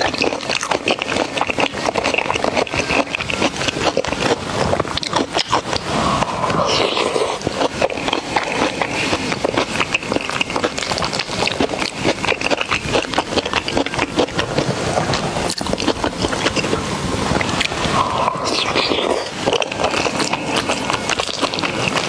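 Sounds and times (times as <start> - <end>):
crunching and wet chewing: 0.0 - 22.0.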